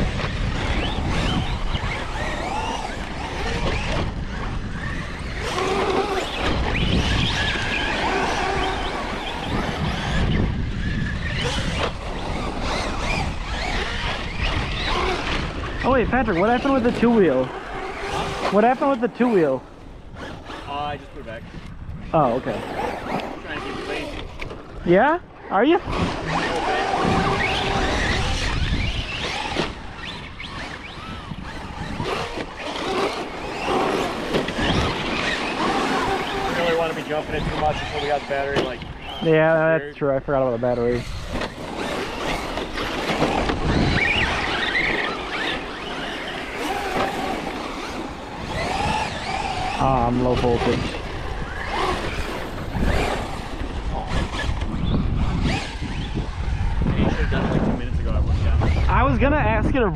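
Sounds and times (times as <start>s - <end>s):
electric motor whining: 0.0s - 59.9s
wind buffeting microphone: 0.0s - 59.9s.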